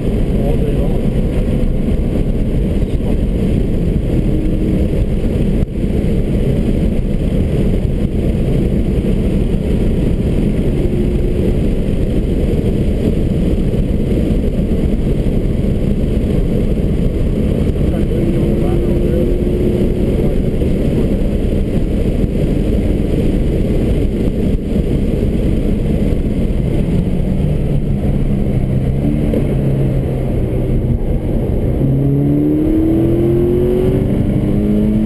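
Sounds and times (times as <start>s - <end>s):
car engine rumble from inside cabin: 0.0s - 35.0s
road and wind noise: 0.0s - 35.0s.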